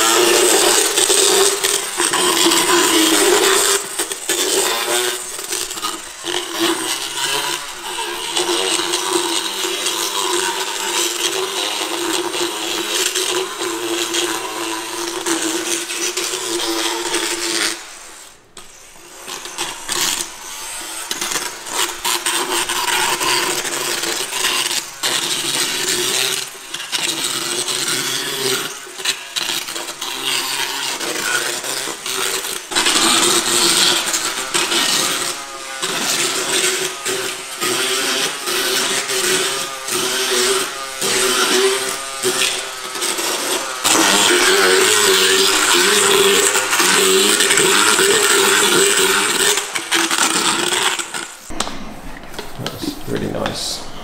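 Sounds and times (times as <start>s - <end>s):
motorised dental rasp on teeth: 0.0s - 51.5s.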